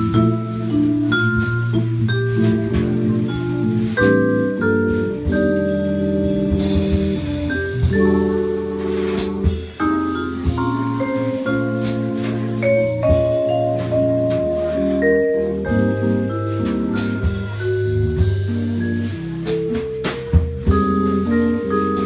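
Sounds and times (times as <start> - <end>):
drums and cymbals: 0.0 - 22.0
vibraphone chords: 0.0 - 22.0.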